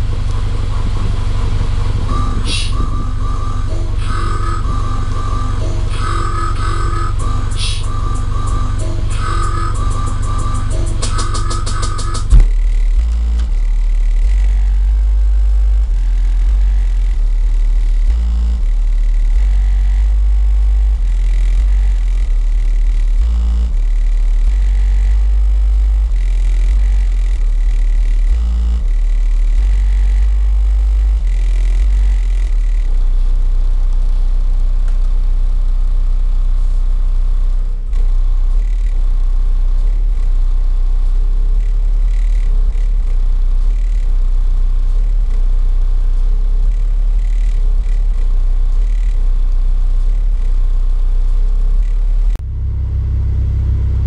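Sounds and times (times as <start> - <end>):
loud bass-heavy music from car: 0.0 - 54.0.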